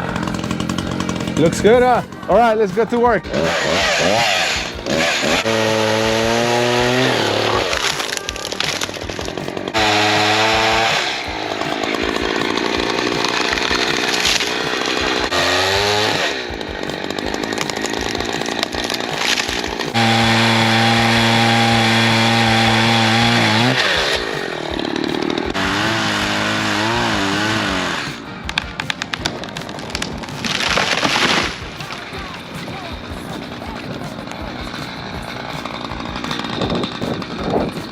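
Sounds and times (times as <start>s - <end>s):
chainsaw cutting tree: 0.0s - 37.9s.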